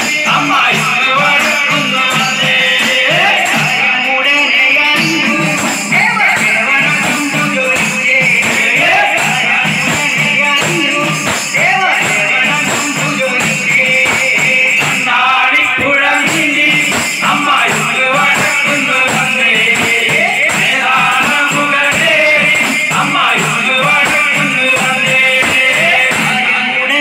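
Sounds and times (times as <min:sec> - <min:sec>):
group singing folk song: 0:00.0 - 0:27.0
tambourines and hand percussion: 0:00.0 - 0:27.0.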